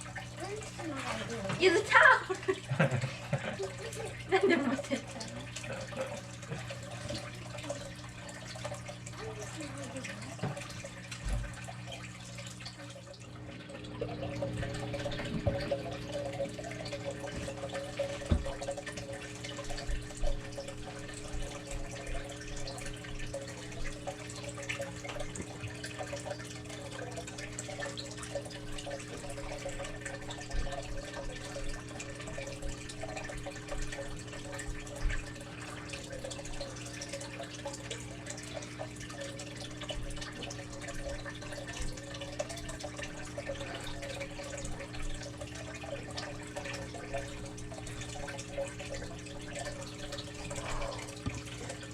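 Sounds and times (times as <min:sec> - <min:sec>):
water trickling and dripping: 0:00.0 - 0:51.9.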